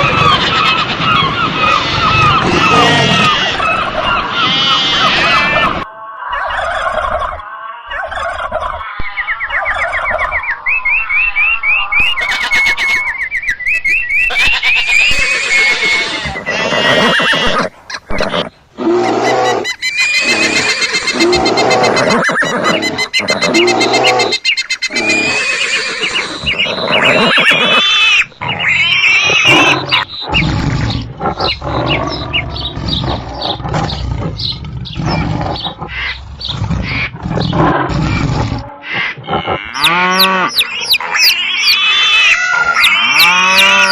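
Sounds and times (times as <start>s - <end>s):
animal and bird calls: 0.0s - 43.9s.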